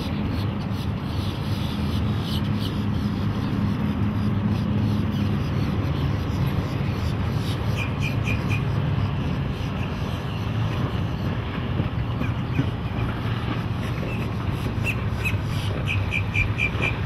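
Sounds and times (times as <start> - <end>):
boat engine drone: 0.0 - 17.0
water noise: 0.0 - 17.0.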